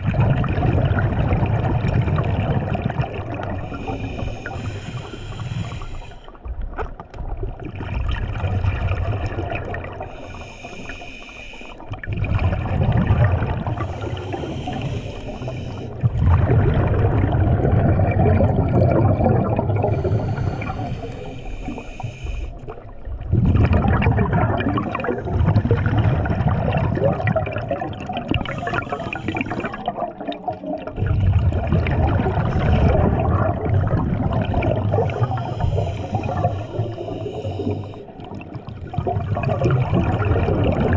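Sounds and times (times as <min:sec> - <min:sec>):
underwater bubbling from exhaled air: 0:00.0 - 0:40.9.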